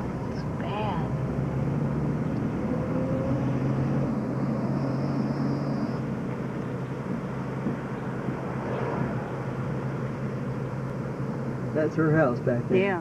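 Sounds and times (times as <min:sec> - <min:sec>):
car engine running: 0:00.0 - 0:13.0
low engine hum: 0:00.0 - 0:13.0
road noise: 0:00.0 - 0:13.0.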